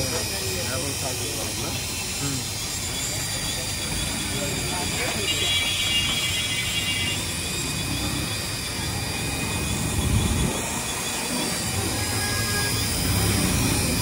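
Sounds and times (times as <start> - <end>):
toy helicopter rotors whirring: 0.0 - 14.0.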